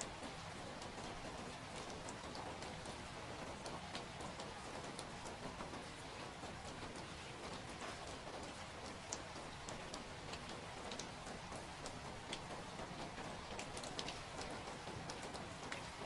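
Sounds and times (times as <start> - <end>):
sharp drips and taps: 0.0 - 16.0
steady rain hiss: 0.0 - 16.0.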